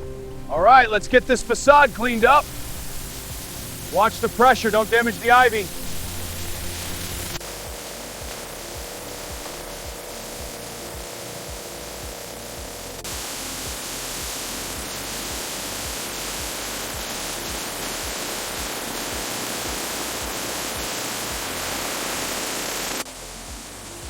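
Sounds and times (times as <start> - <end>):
background music with beat: 0.0 - 24.0
pressure washer spraying: 0.0 - 24.0.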